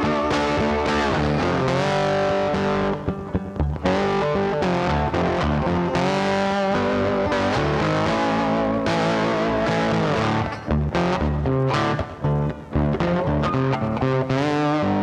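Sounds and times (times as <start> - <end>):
guitar background music: 0.0 - 15.0.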